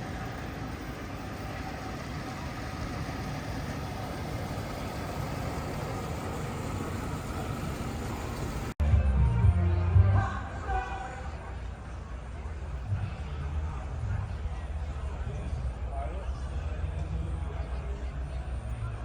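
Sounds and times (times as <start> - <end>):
car engine idling: 0.0 - 19.0
outdoor noise: 0.0 - 19.0.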